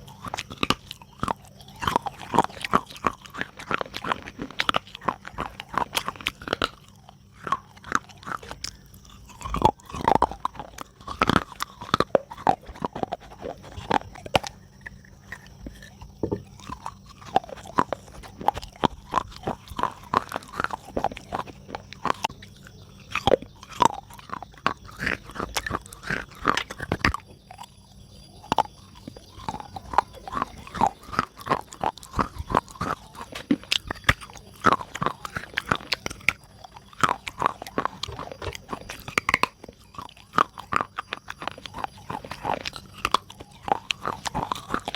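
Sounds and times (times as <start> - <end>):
person chewing with wet crunches: 0.0 - 44.9.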